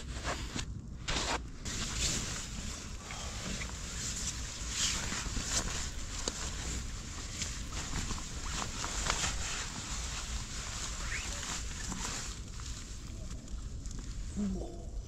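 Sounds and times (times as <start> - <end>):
nylon fabric rustling: 1.1 - 13.3.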